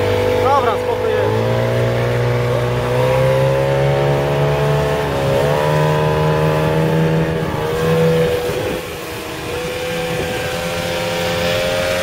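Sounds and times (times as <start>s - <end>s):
speedboat engine running: 0.0s - 12.0s.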